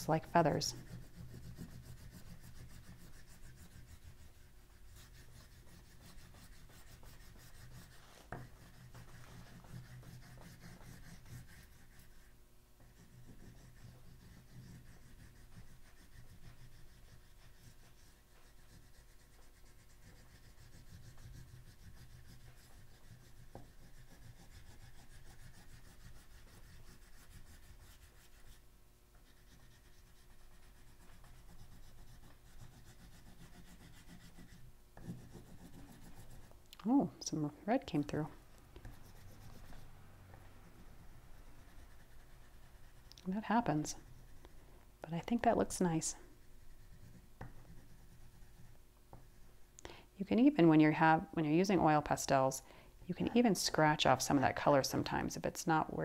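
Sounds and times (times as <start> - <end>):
oil pastel rubbing on paper: 0.0 - 28.6, 29.2 - 36.5, 38.8 - 44.6, 45.2 - 49.6.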